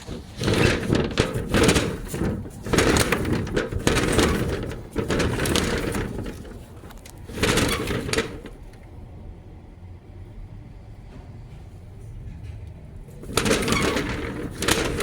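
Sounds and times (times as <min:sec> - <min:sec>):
storm shutter scraping and rattling: 0:00.0 - 0:09.4, 0:11.0 - 0:15.0.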